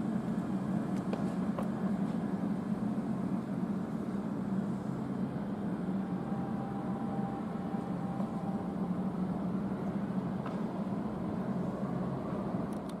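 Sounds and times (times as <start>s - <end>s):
light-rail train humming: 0.0s - 13.0s
faint high whine: 1.4s - 12.5s.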